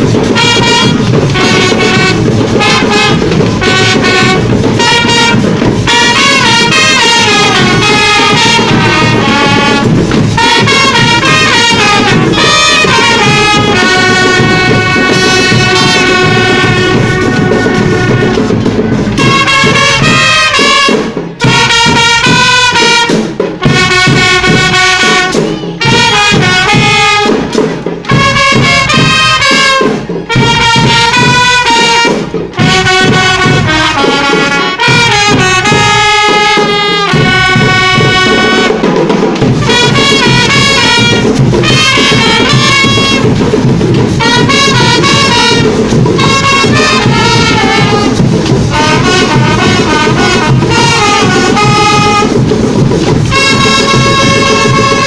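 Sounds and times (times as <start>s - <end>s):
marching drums: 0.0s - 55.0s
trumpets playing: 0.0s - 55.0s.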